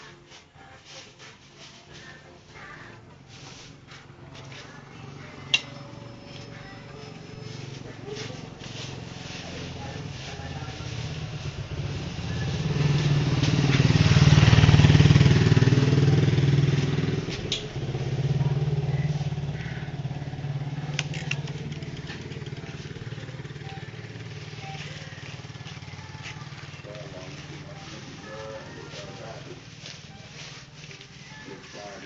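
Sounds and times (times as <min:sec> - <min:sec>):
vehicle engine passing by: 0:03.1 - 0:32.0.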